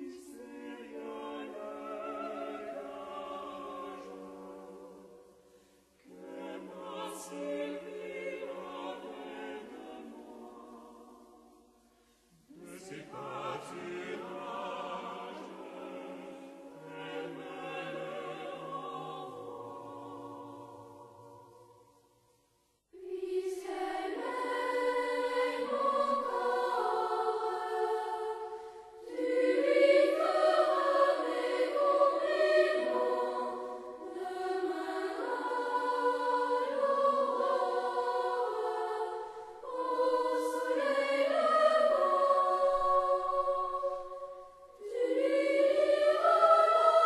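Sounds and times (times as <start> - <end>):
choir singing folk song: 0.0 - 47.0.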